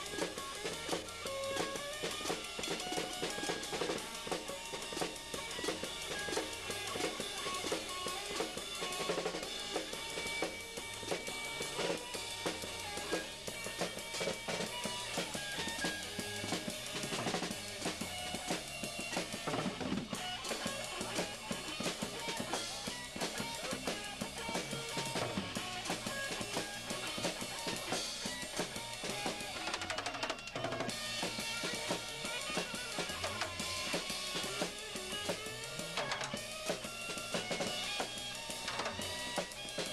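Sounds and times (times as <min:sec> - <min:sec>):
drum kit beating: 0:00.0 - 0:39.9
live band music: 0:00.0 - 0:39.9.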